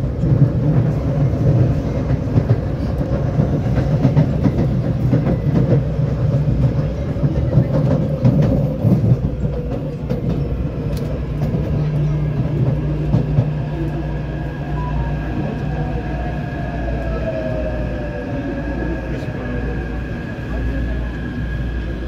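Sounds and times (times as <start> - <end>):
train running rumble and hum: 0.0 - 22.0.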